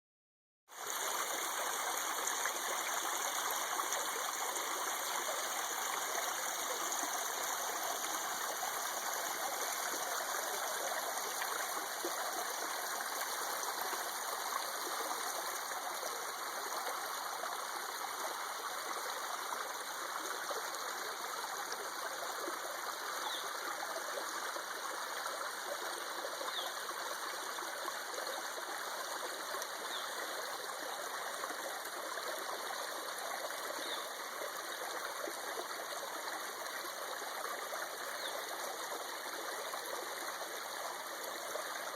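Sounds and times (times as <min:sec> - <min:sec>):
stream flowing and trickling: 0:00.7 - 0:41.9.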